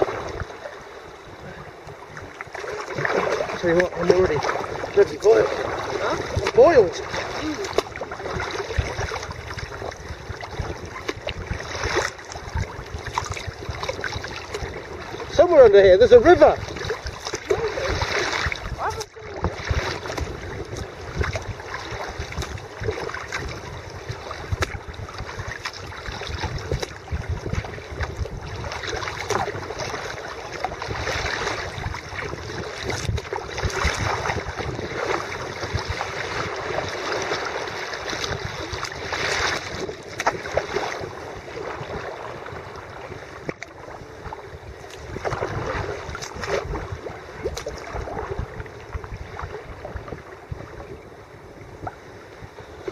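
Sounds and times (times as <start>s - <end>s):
paddle splashing in water: 0.0s - 51.0s
water washing against boat: 0.0s - 52.9s.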